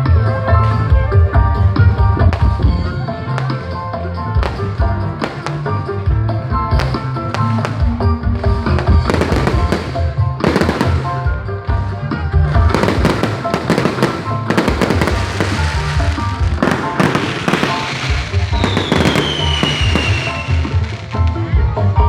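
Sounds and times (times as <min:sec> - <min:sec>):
music with heavy bass beat: 0:01.4 - 0:22.0
fireworks banging and crackling: 0:02.2 - 0:11.8, 0:12.4 - 0:21.4.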